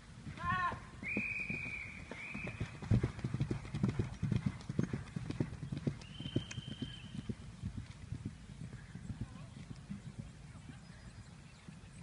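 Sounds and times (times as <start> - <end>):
horse hooves thudding on turf: 0.0 - 12.0.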